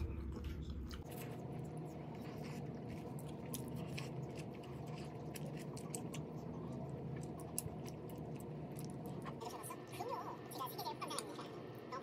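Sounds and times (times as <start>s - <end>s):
wet squishing of noodles: 0.0s - 11.9s
steady low hum: 0.0s - 12.0s.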